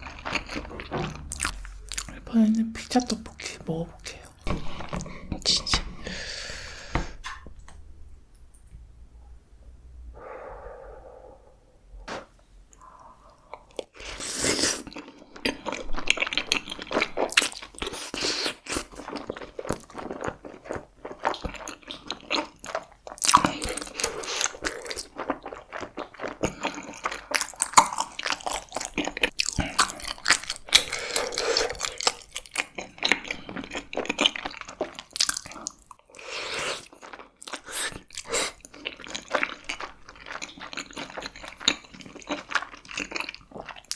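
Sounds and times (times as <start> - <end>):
person chewing food: 0.0 - 7.7, 12.7 - 43.9.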